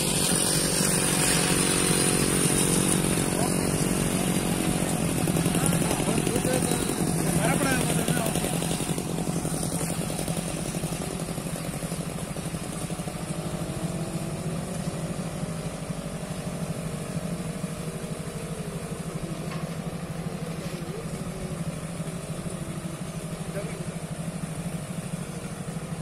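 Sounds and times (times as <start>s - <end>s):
motorcycle engine running: 0.0s - 26.0s
tractor engine running: 0.0s - 26.0s.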